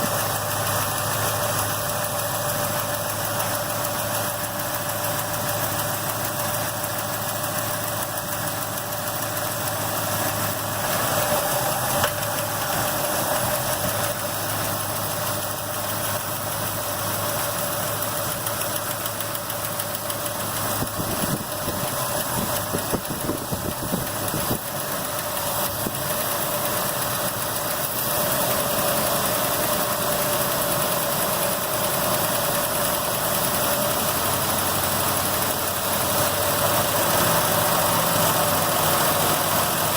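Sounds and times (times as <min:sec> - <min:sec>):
car engine idling: 0:00.0 - 0:39.9
fast steady engine ticking: 0:00.0 - 0:39.9.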